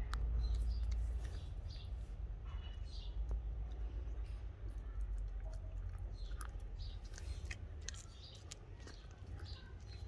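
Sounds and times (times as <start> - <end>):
cat chewing meat and bone: 0.0 - 2.0, 3.2 - 10.0.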